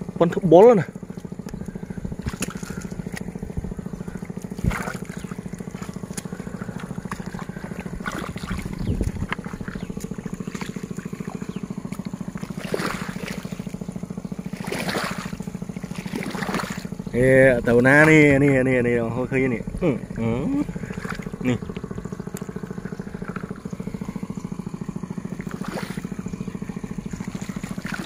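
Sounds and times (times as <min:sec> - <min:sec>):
small engine droning: 0:00.0 - 0:28.0
feet sloshing through muddy water: 0:00.7 - 0:19.4, 0:20.1 - 0:28.0
water splashes: 0:00.7 - 0:19.6, 0:20.6 - 0:28.0.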